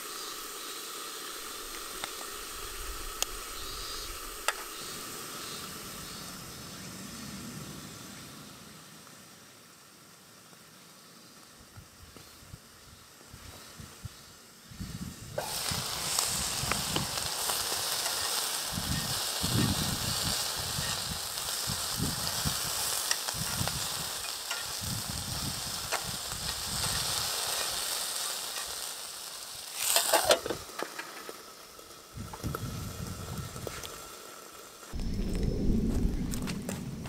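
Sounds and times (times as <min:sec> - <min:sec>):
food sizzling in a pan: 0:00.0 - 0:35.6.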